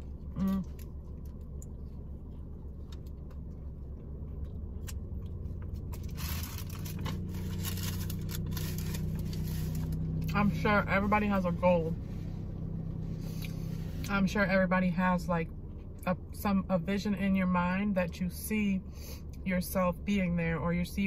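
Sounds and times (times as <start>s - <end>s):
low hum inside a car: 0.0s - 21.0s.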